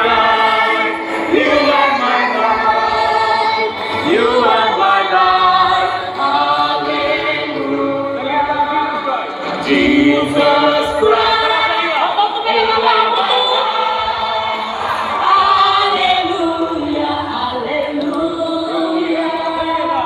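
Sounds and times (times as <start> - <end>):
crowd singing together: 0.0 - 20.0.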